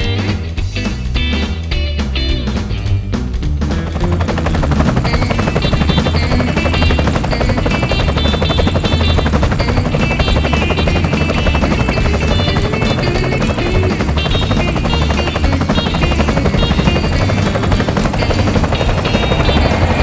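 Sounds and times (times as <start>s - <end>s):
music playing: 0.0s - 20.0s
drone propellers whirring: 3.6s - 20.0s.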